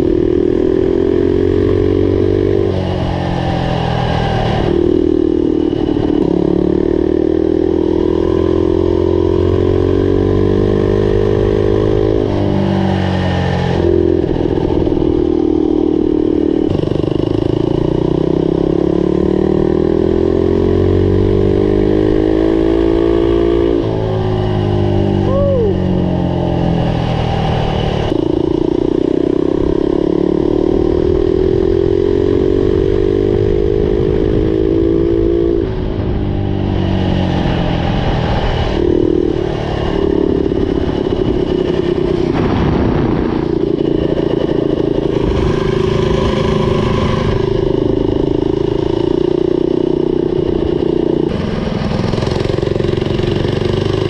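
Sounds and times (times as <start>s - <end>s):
mini bike engine revving: 0.0s - 35.9s, 36.6s - 54.0s.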